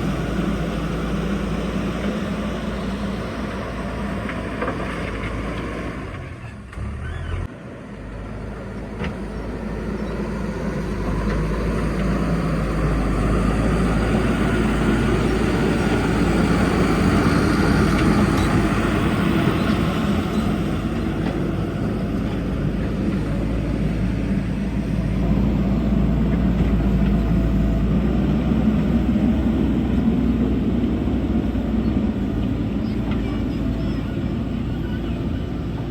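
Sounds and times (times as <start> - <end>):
backhoe diesel engine working: 0.0 - 35.9.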